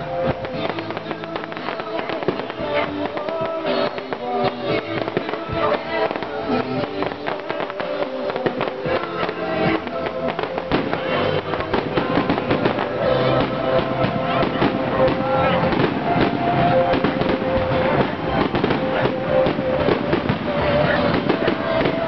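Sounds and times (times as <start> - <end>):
fireworks pops and bangs: 0.0 - 22.0
music playing: 0.0 - 22.0.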